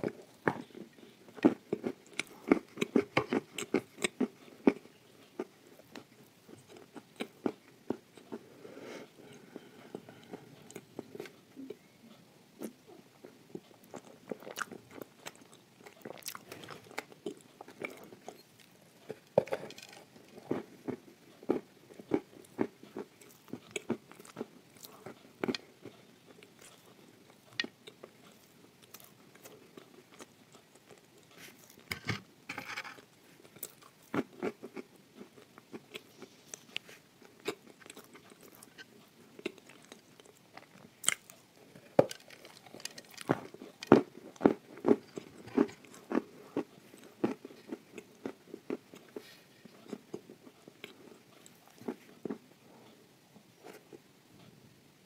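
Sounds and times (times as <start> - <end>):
chewing and crunching: 0.0 - 32.0, 32.9 - 53.0.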